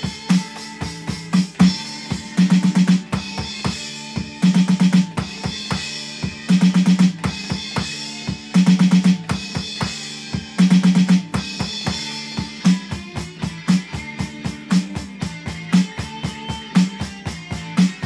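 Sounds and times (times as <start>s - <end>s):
bass drum and cymbal wash: 0.0s - 18.0s
rapid snare drum strokes: 0.0s - 18.0s.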